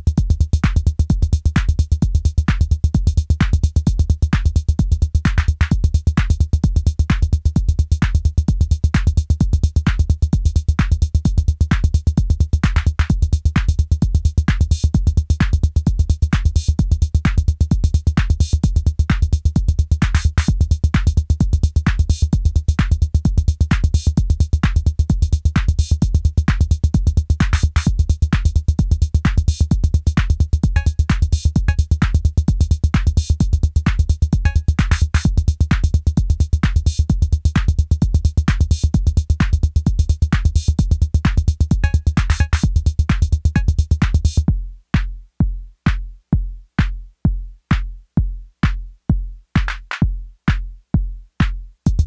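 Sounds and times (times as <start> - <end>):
drum machine beat: 0.0 - 52.0.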